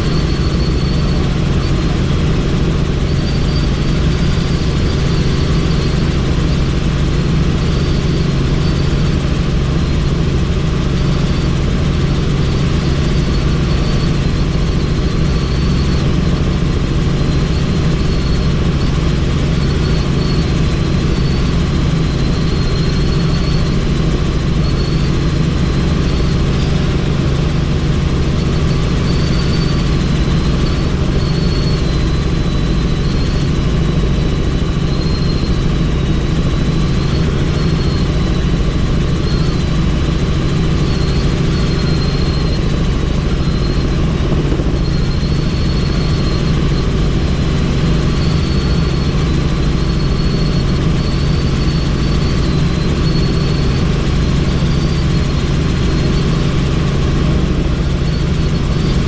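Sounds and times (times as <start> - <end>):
faint high whine: 0.0 - 59.0
helicopter engine and rotor noise: 0.0 - 59.0.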